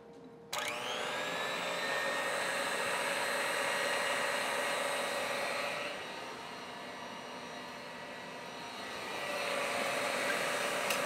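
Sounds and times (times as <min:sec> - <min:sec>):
stand mixer motor whine: 0:00.6 - 0:11.0.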